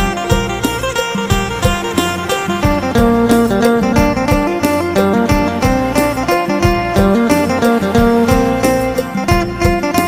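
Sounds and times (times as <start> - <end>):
plucked lute folk melody: 0.0 - 10.0
steady beat: 0.0 - 10.0.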